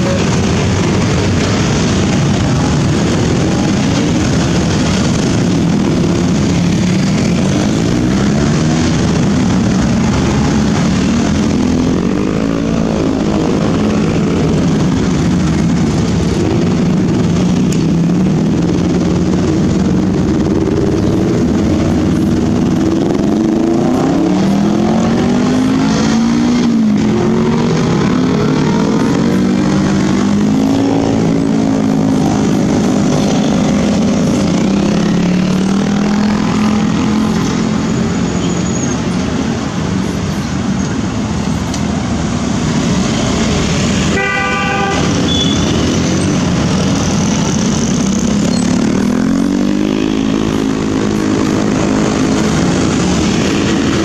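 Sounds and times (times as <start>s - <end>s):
car engines: 0.0s - 54.0s
motorcycle and scooter engines: 0.0s - 54.0s.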